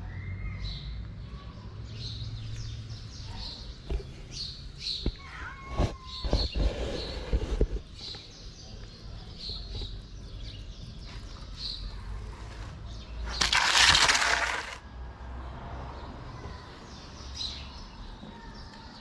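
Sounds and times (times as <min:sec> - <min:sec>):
small birds chirping: 0:00.0 - 0:14.7, 0:16.0 - 0:19.0.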